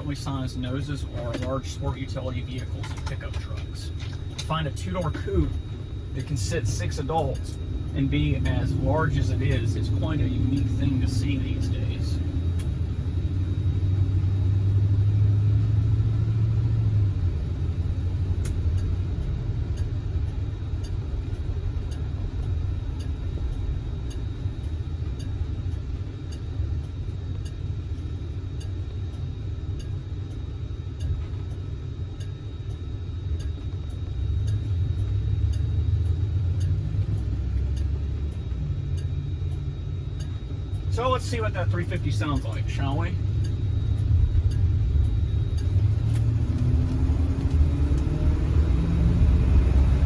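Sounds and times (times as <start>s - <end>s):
car engine and road drone: 0.0s - 50.0s
faint regular ticking: 0.0s - 50.0s.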